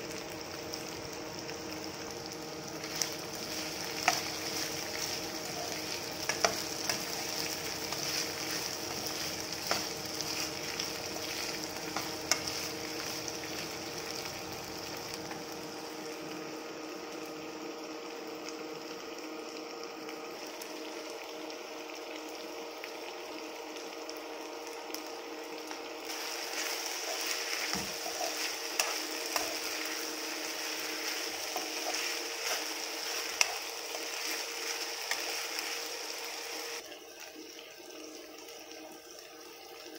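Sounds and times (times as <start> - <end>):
potatoes sizzling in a pan: 0.0 - 39.9.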